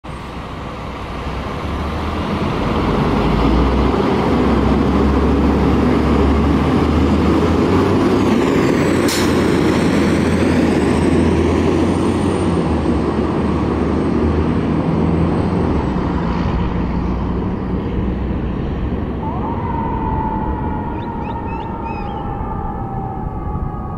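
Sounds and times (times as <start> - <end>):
fire engine diesel rumble: 0.0 - 23.9.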